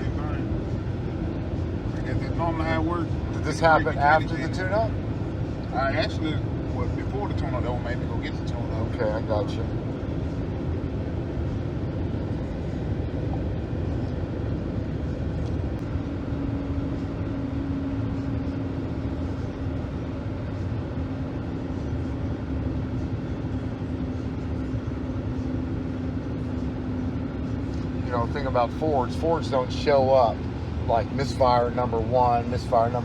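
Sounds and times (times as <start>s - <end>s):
engine and road noise in cab: 0.0s - 33.0s
steady hum: 0.0s - 33.0s.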